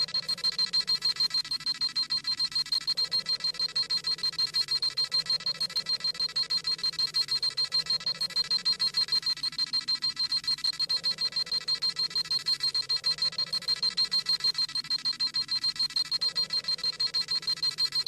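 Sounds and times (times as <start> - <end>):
rapid high-pitched electronic beeping: 0.0 - 18.0.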